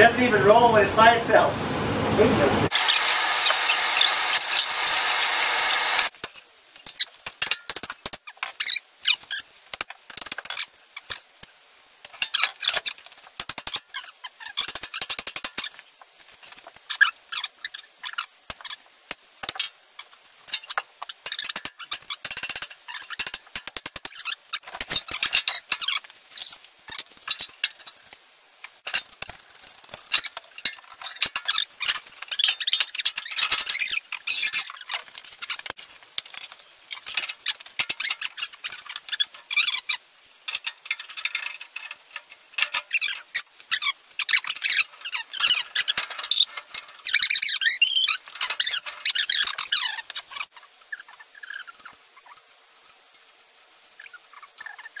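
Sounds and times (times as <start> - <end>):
clicks knocks and squeaks of hand work: 6.0 - 52.4, 54.0 - 55.0.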